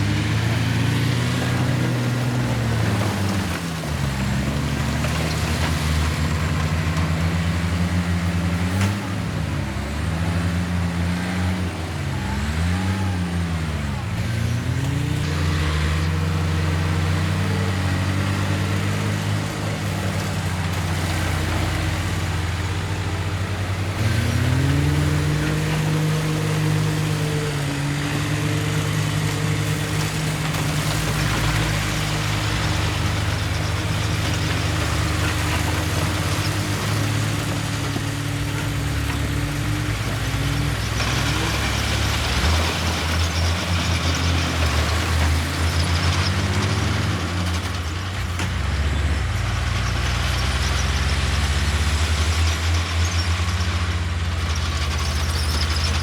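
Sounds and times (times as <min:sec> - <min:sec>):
heavy diesel engines working: 0:00.0 - 0:56.0.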